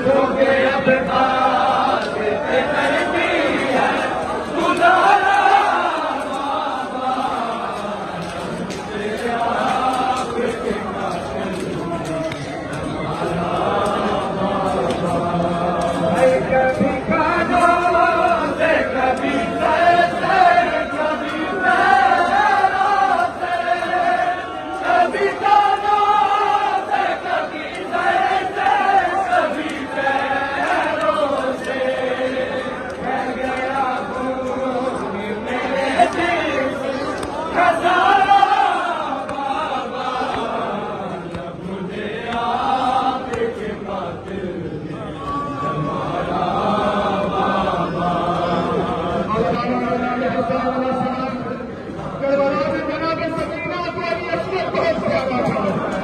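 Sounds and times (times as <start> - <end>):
crowd of men chanting: 0.0 - 56.0.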